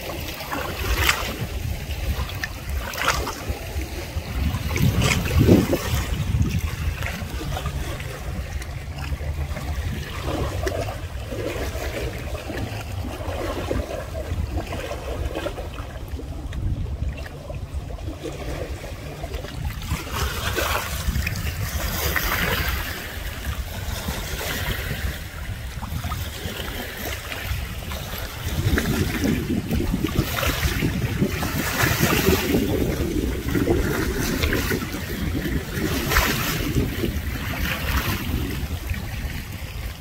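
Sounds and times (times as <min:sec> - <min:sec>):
steady low rumble: 0:00.0 - 0:40.0
water trickling and splashing: 0:00.0 - 0:40.0.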